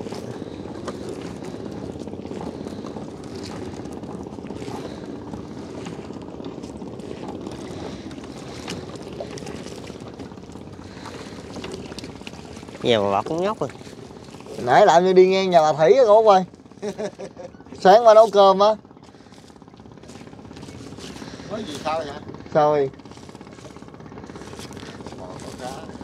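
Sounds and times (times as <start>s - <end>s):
small boat engine droning: 0.0s - 26.0s.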